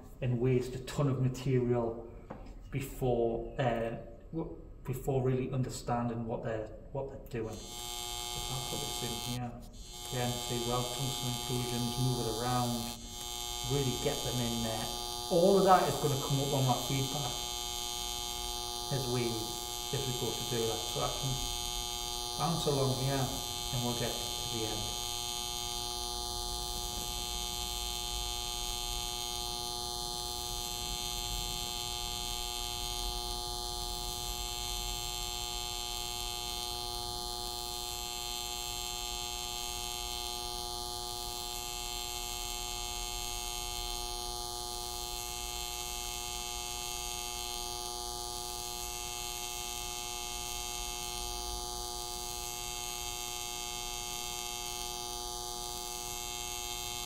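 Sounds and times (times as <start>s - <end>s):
welding arc electric buzz: 7.4s - 57.0s.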